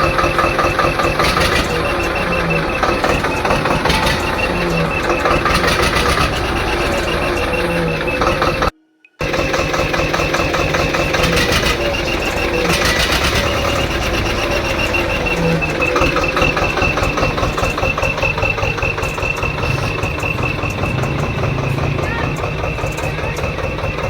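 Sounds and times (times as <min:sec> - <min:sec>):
tractor diesel engine running: 0:00.0 - 0:24.0
turbo whistle: 0:00.0 - 0:24.0.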